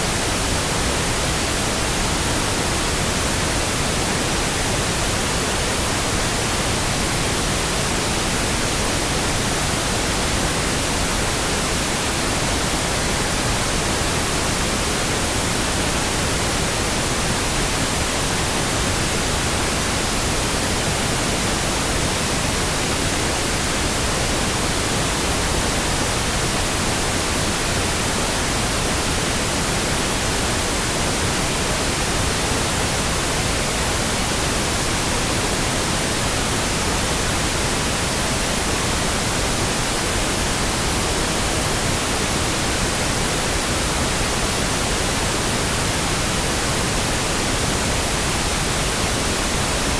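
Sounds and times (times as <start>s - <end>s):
pink noise hiss: 0.0s - 49.9s.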